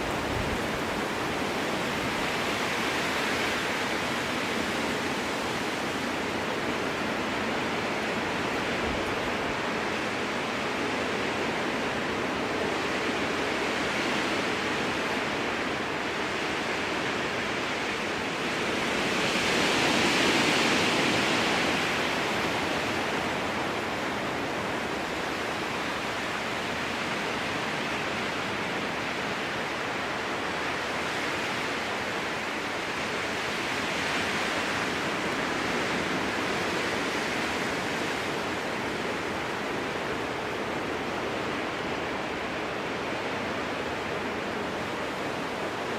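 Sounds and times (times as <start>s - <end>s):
strong wind through forest: 0.0s - 45.9s.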